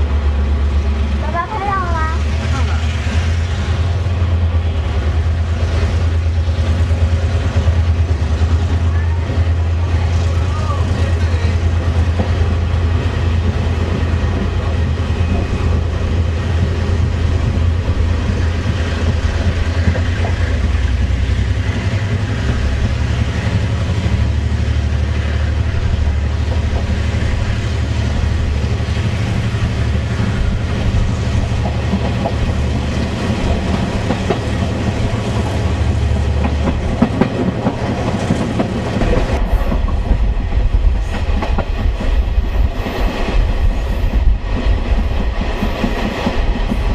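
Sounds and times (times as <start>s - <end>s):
diesel locomotive rumble: 0.0s - 46.9s
train wheels clacking on rails: 0.0s - 46.9s.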